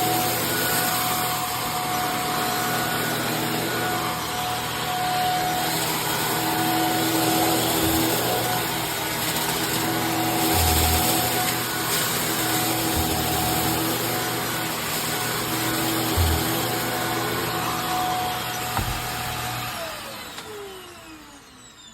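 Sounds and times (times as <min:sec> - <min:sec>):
upright vacuum running: 0:00.0 - 0:21.9.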